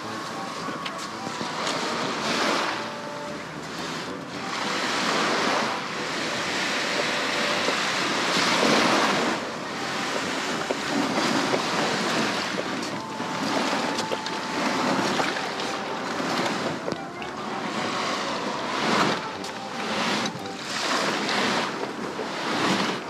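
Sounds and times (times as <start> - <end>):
small waves breaking on beach: 1.3 - 16.8, 17.4 - 23.0.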